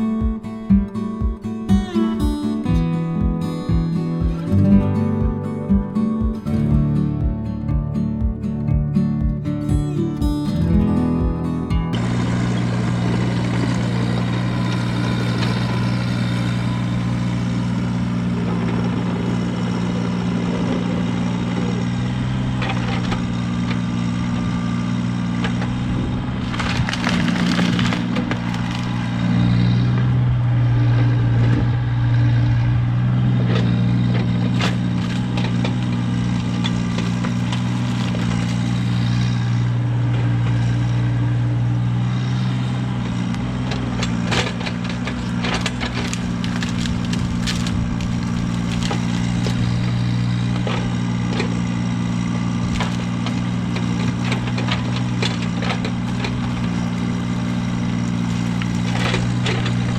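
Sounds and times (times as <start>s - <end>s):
heavy machinery diesel engine: 0.0s - 59.9s
rough gritty burst: 9.4s - 59.9s.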